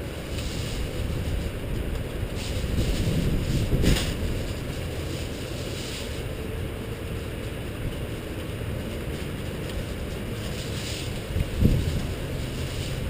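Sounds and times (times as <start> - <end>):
faint rain hiss: 0.0 - 13.0
wind rumble on microphone: 0.0 - 13.0.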